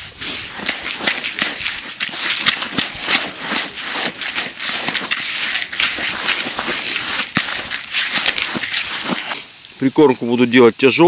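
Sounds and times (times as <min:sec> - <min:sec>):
hands squeezing crumbly bait: 0:00.1 - 0:09.4.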